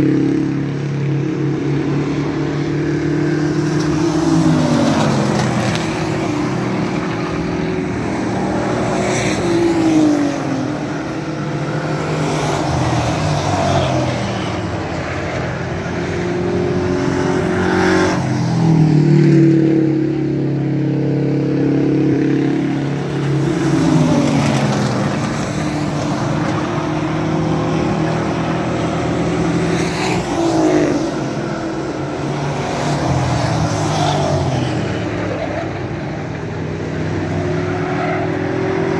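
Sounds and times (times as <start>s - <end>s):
race truck engines passing by: 0.0s - 38.9s.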